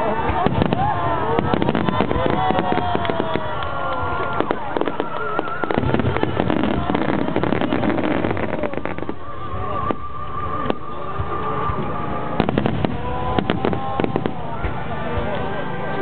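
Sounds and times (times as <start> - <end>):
fireworks crackling and banging: 0.0 - 16.0
whistling firework shells: 1.4 - 14.4.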